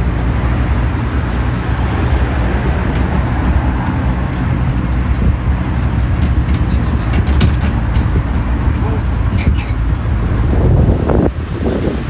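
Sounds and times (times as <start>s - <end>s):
land train rumbling along road: 0.0s - 12.0s.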